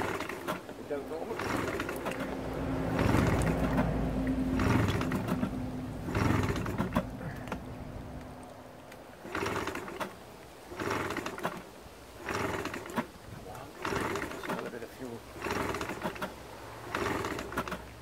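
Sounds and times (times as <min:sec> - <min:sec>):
outboard motor running: 0:00.0 - 0:08.2, 0:09.0 - 0:18.0.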